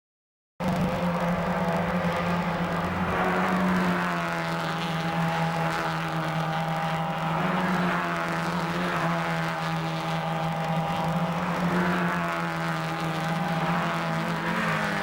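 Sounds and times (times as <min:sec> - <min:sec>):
race car engines passing: 0:00.6 - 0:15.0.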